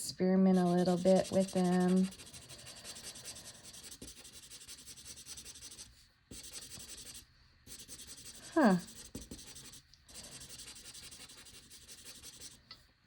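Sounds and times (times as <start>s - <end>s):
marker scratching on paper: 0.5s - 12.6s.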